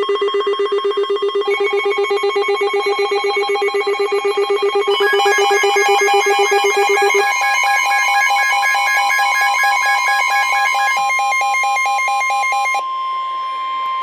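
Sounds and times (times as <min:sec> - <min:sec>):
steady high alert tone: 0:00.0 - 0:13.0
pulsing electronic alarm: 0:00.0 - 0:14.0.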